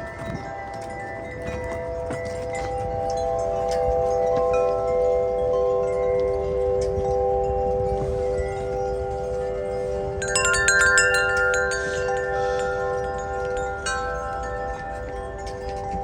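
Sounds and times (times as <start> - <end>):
wind chimes ringing: 0.0 - 16.0
wind rumbling: 0.0 - 16.0.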